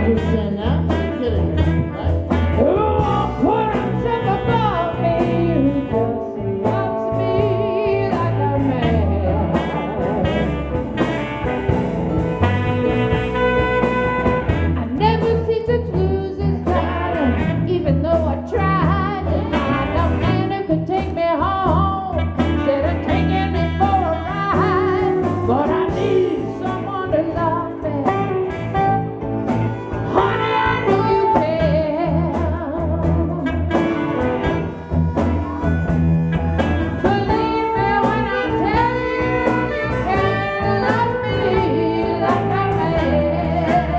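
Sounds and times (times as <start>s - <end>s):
person singing lead vocal: 0.0s - 11.1s, 14.8s - 29.0s, 29.7s - 35.7s, 36.5s - 43.9s
bass guitar: 0.0s - 43.9s
live blues band: 0.0s - 43.9s.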